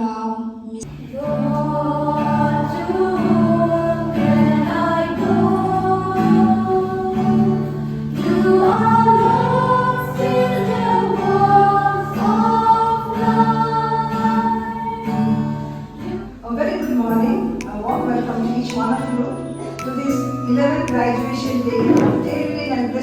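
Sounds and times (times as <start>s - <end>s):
group of voices singing: 0.7s - 23.0s
instrumental accompaniment: 0.9s - 23.0s.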